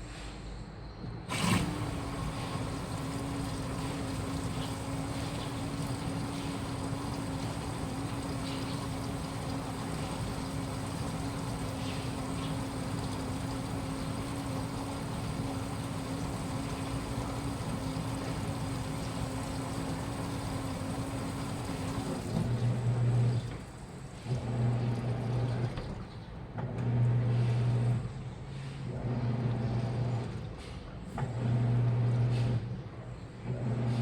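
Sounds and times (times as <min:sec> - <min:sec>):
washing machine motor hum: 0:01.2 - 0:34.0.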